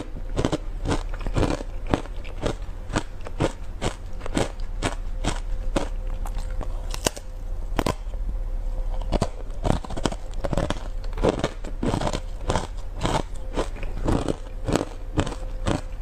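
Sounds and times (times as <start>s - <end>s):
ice cubes crunching: 0.0s - 7.9s, 9.0s - 16.0s.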